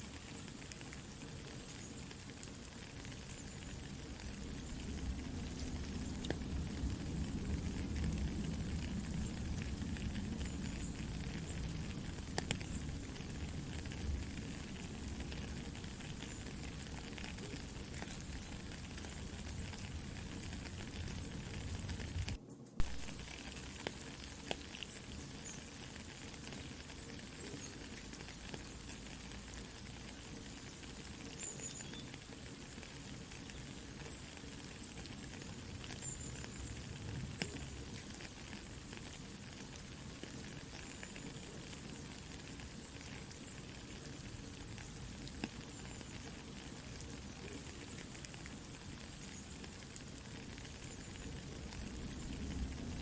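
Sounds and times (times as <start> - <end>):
soft rain falling: 0.0 - 53.0.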